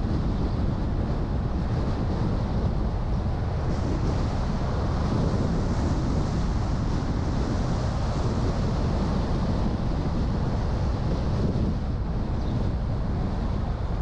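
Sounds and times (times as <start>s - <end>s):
car tyres and engine rumble: 0.0s - 14.0s
wind noise on microphone: 0.0s - 14.0s.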